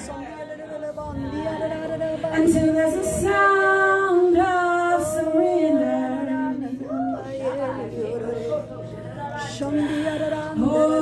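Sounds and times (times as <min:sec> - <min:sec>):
woman singing long notes: 0:01.1 - 0:08.6, 0:09.3 - 0:11.0.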